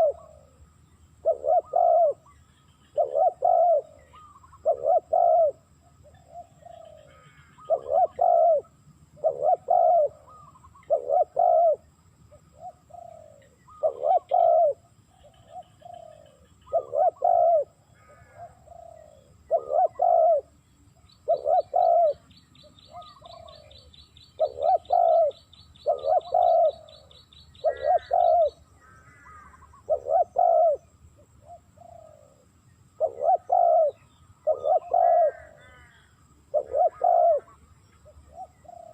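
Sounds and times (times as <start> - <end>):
dove cooing: 0.0 - 0.6, 1.2 - 38.9.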